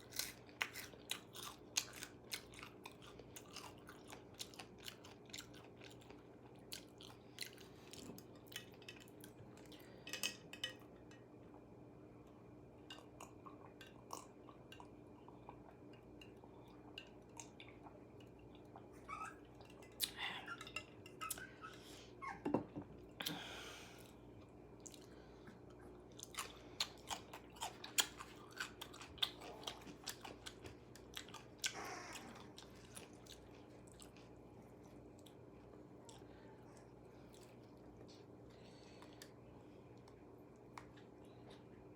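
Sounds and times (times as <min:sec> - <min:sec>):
person chewing and crunching food: 0:00.0 - 0:21.9, 0:23.0 - 0:41.9.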